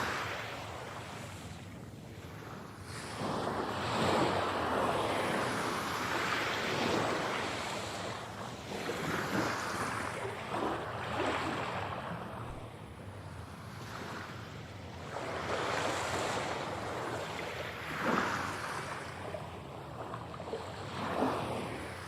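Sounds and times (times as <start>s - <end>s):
sea waves breaking: 0.0s - 22.0s.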